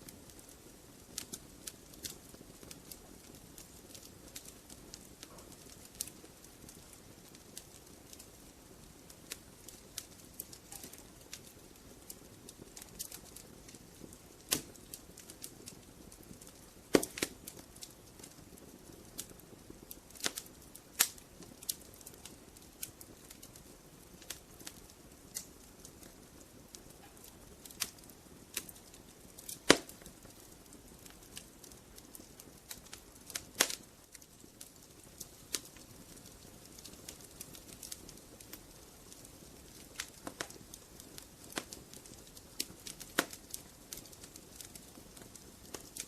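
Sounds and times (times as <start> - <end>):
fire crackling and popping: 0.0 - 46.0.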